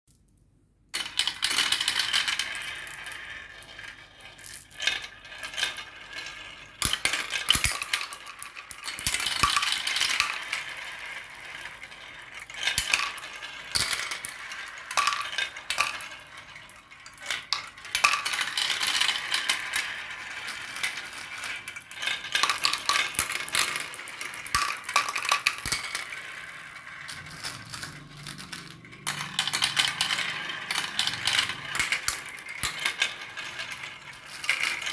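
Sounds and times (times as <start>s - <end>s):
marbles rolling and clattering: 1.0s - 34.9s.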